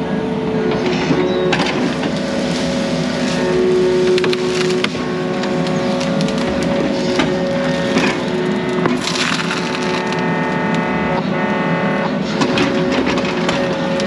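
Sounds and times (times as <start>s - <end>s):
mini excavator running: 0.0s - 14.0s
wood and brush cracking: 0.7s - 14.0s.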